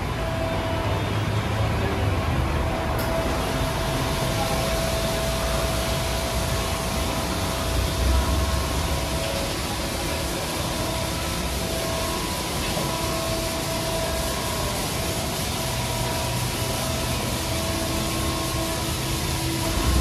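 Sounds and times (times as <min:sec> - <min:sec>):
faint steady whine: 0:00.0 - 0:20.0
machinery hum: 0:00.0 - 0:20.0.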